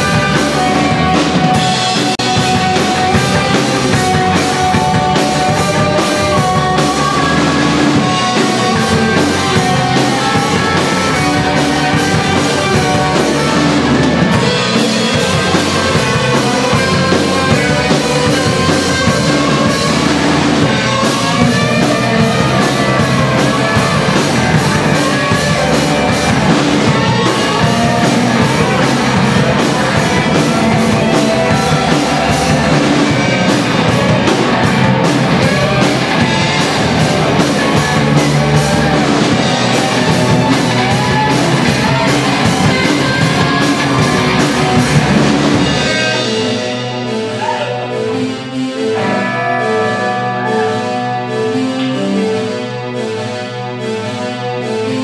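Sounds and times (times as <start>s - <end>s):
drum kit: 0.0s - 47.9s
electric guitars: 0.0s - 55.0s.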